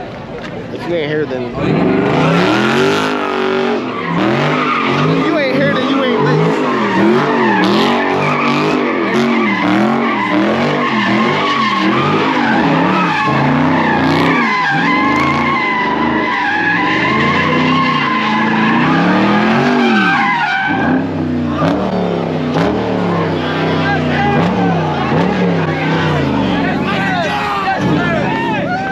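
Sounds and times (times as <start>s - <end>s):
car engine revving: 0.7s - 28.9s
tyres squealing: 1.6s - 28.9s.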